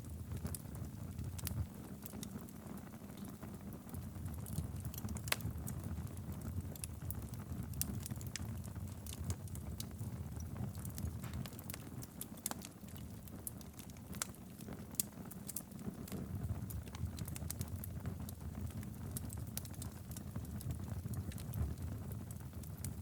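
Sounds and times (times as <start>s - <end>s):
wood fire burning: 0.0s - 23.0s.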